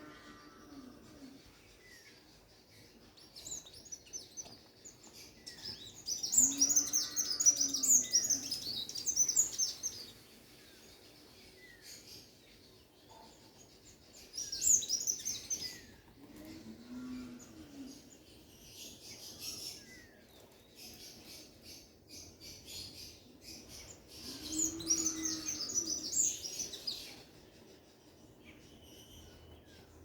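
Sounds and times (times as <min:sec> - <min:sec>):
small birds twittering: 0:00.0 - 0:30.0.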